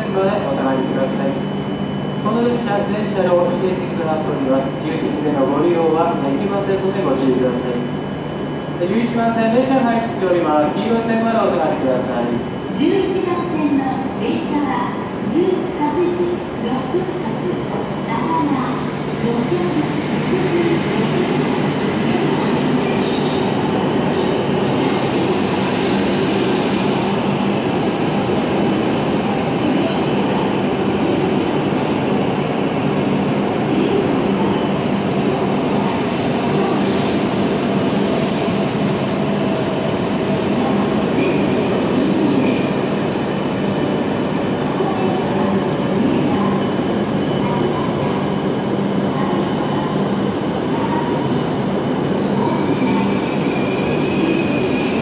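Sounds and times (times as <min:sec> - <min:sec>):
high-speed train passing: 0:00.0 - 0:55.0.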